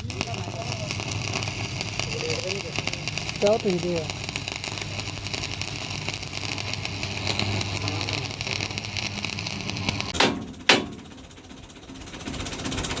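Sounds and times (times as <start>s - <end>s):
engine running with fast rattle: 0.0s - 13.0s.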